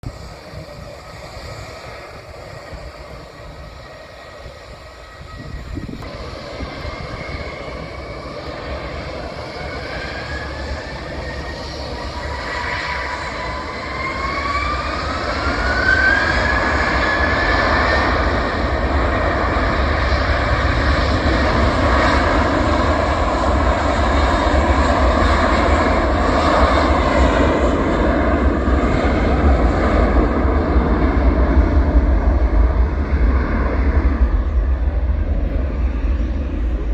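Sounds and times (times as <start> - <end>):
jet engines at takeoff thrust: 0.0 - 36.9
rising jet engine whine: 0.0 - 36.9.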